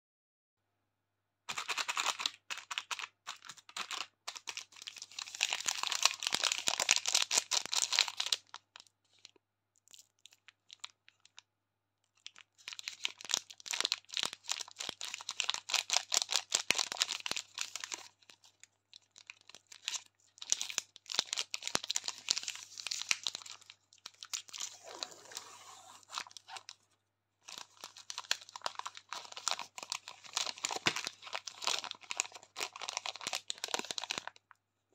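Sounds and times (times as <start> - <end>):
plastic wrapper crinkling: 1.5 - 34.6.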